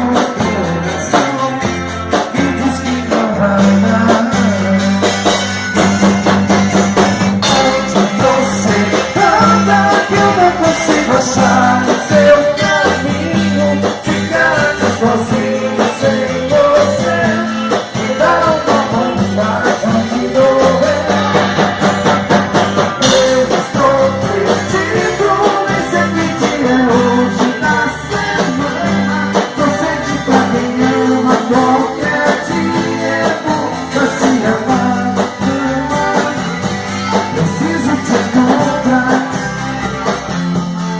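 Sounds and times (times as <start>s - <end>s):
instrumental band music: 0.0s - 40.9s
steady drum beat: 0.0s - 40.9s.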